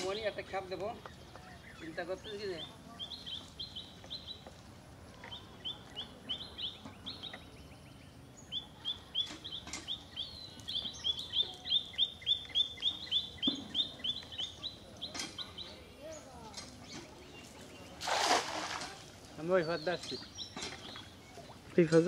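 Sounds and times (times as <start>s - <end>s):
bird chirping: 0.0s - 4.5s, 5.2s - 18.0s, 19.4s - 21.9s.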